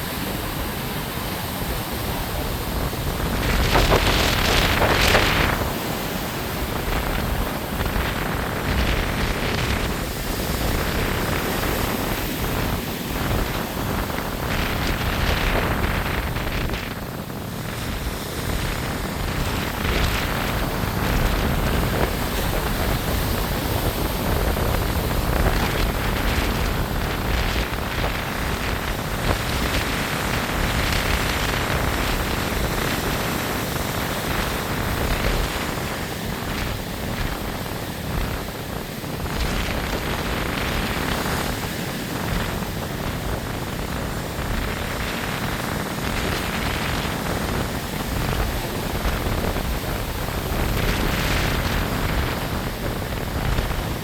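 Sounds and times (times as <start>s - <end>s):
gusty wind on microphone: 0.0s - 54.0s
heavy surf rushing: 0.0s - 54.0s.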